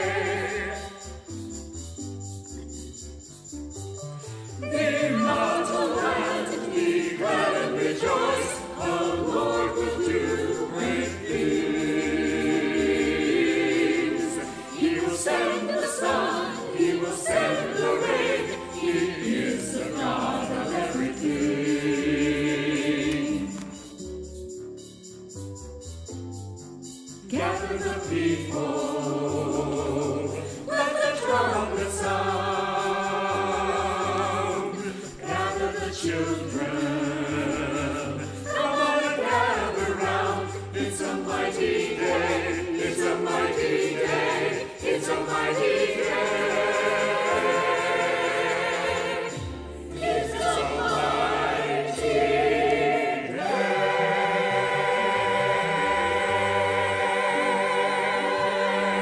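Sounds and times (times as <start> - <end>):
choir singing an anthem: 0.0 - 1.4, 4.5 - 23.9, 27.3 - 59.0.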